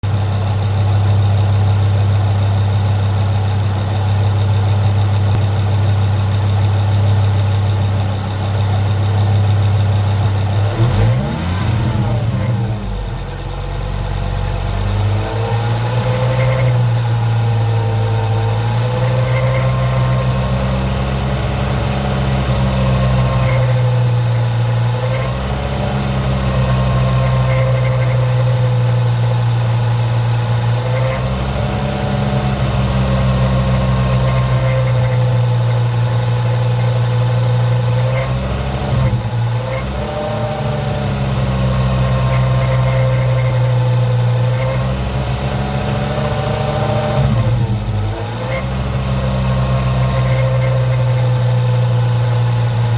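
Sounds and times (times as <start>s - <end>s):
car engine low drone: 0.0s - 52.9s.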